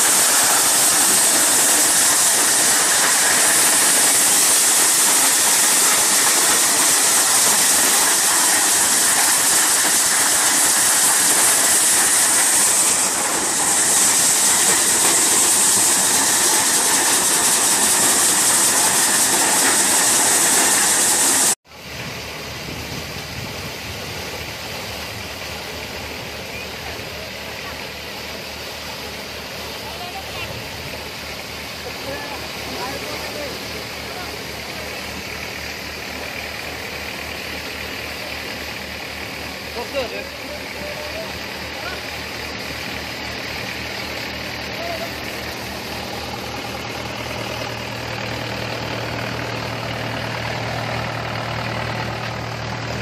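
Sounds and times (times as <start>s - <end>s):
engine-driven thresher running: 0.0s - 53.0s
thresher rushing hiss: 0.0s - 53.0s.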